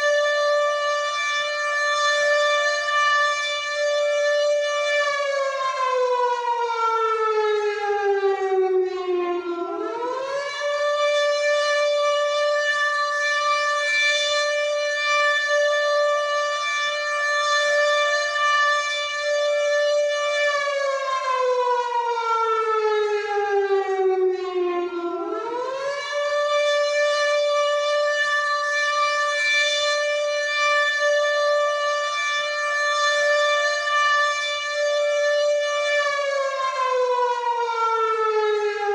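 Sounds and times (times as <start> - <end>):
air raid siren wailing: 0.0 - 38.9.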